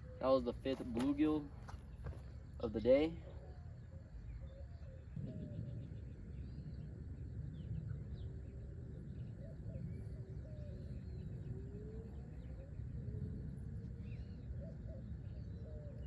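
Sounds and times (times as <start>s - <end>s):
faint chirping calls: 0.0s - 16.0s
faint wavering tones: 0.0s - 16.0s
steady low rumble: 0.0s - 16.0s.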